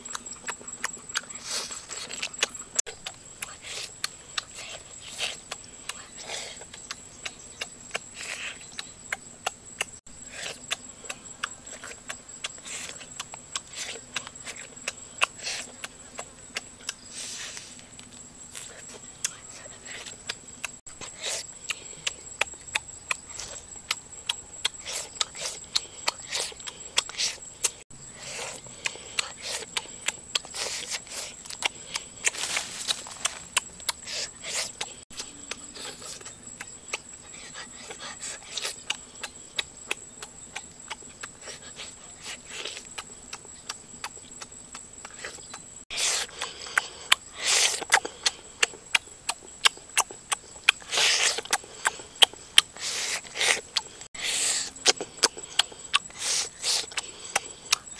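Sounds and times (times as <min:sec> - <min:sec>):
chewing and lip-smacking: 0:00.0 - 0:57.9.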